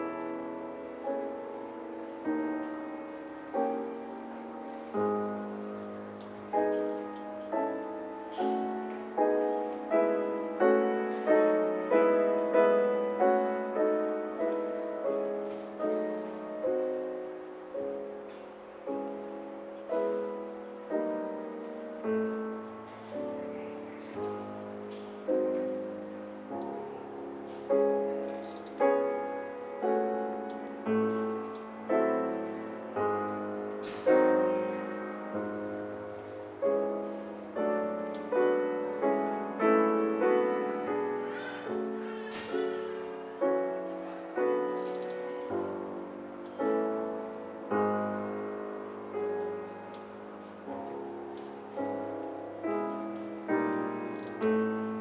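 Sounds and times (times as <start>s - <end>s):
grand piano classical piece: 0.0s - 55.0s.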